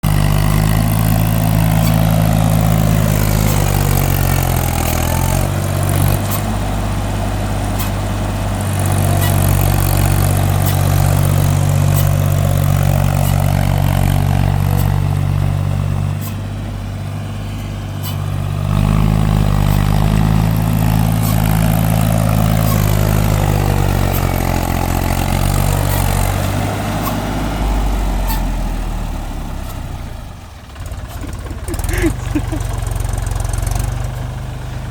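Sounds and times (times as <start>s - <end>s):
diesel tractor engine running hard: 0.0s - 34.9s.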